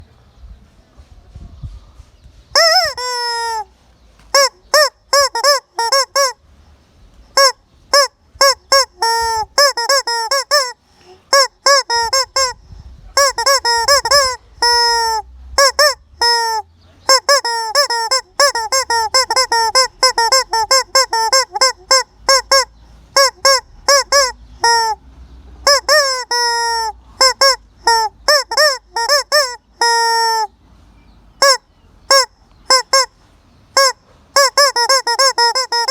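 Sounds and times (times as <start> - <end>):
chicken calling loudly: 2.5 - 6.4, 7.3 - 30.6, 31.4 - 35.9.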